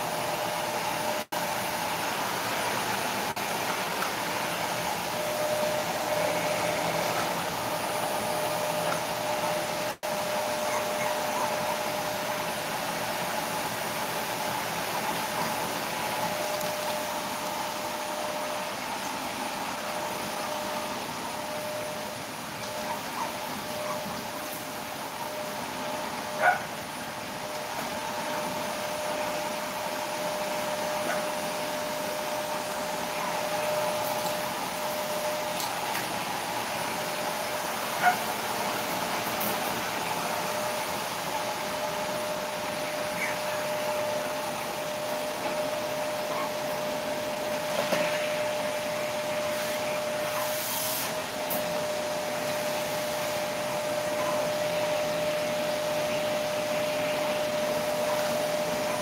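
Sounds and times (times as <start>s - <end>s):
appliance motor humming: 0.7s - 50.4s.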